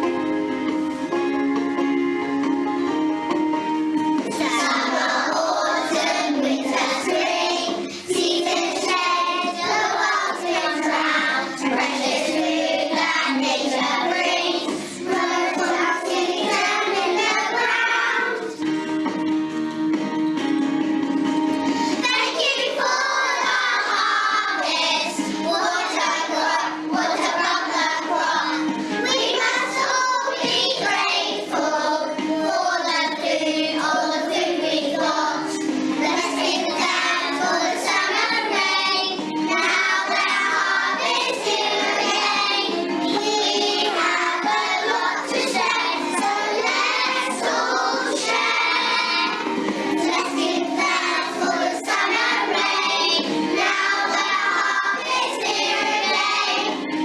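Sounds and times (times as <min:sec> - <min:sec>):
children singing together: 0:04.2 - 0:18.8, 0:21.7 - 0:57.0.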